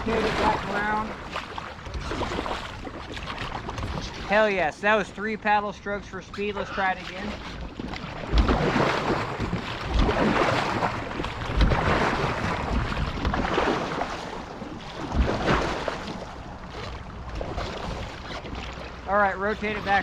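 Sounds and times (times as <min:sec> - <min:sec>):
paddle splashing through water: 0:00.0 - 0:20.0.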